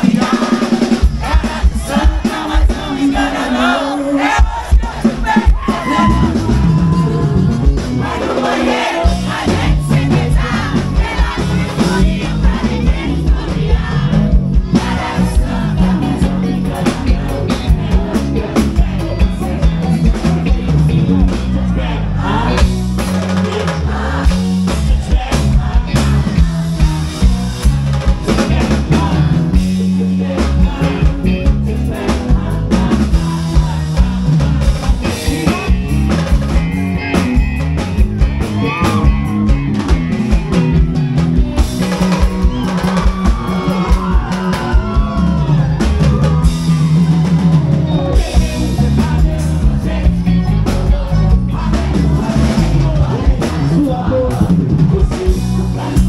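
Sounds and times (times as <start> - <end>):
drum kit beat: 0.0 - 56.0
live band playing upbeat song: 0.0 - 56.0
sung vocals: 0.0 - 56.0.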